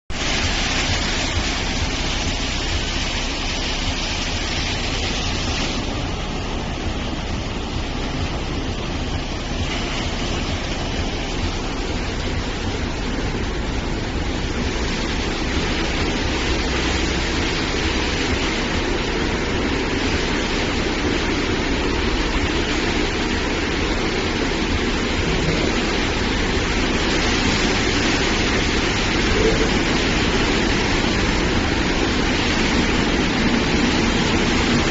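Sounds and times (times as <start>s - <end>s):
car wash machinery hum: 0.1s - 34.9s
spraying water: 0.1s - 34.9s.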